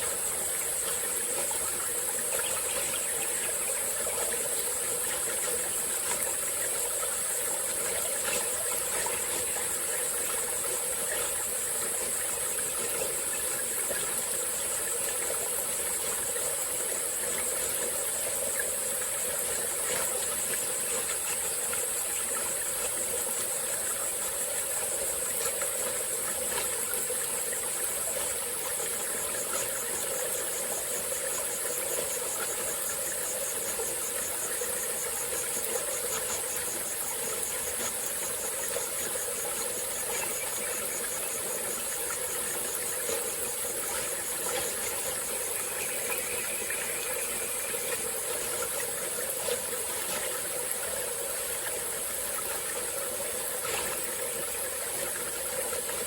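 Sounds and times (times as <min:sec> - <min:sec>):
high-pitched insect trill: 0:00.0 - 0:56.0
stream flowing: 0:00.0 - 0:56.0.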